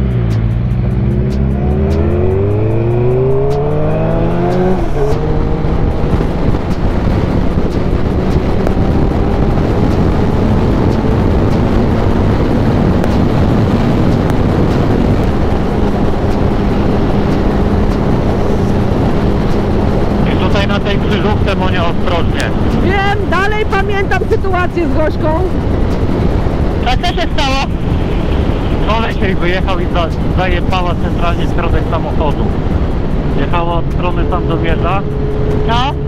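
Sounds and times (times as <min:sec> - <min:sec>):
loud wind noise: 0:00.0 - 0:36.0
motorcycle engine accelerating: 0:00.0 - 0:36.0.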